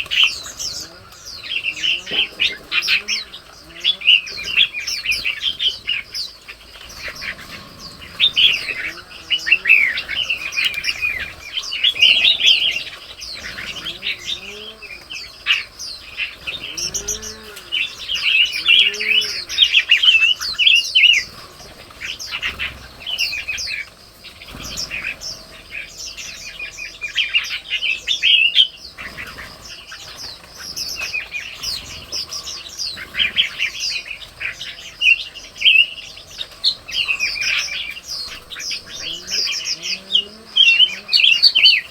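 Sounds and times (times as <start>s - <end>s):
birds chirping and calling: 0.0s - 41.9s
low soft bird calls: 0.0s - 41.9s.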